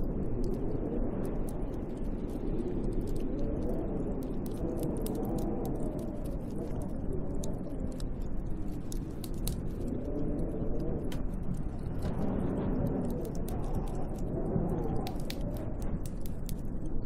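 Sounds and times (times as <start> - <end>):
small sharp crackles: 0.0 - 17.0
snowstorm wind moaning: 0.0 - 17.0.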